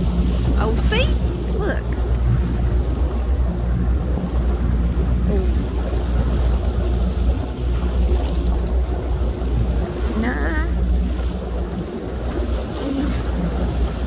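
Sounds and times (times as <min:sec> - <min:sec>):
distant boat engines droning: 0:00.0 - 0:14.0
waves lapping: 0:00.0 - 0:14.0.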